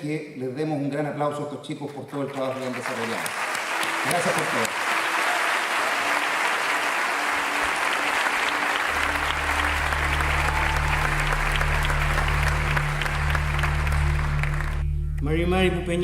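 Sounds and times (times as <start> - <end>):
audience applauding: 2.0 - 14.9.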